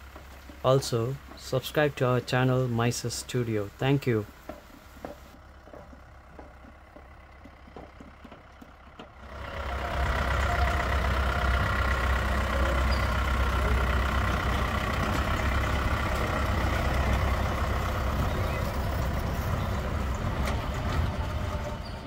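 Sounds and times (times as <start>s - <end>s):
pickup truck engine rumbling: 0.0s - 22.0s
tyres rolling on paving: 0.0s - 22.0s.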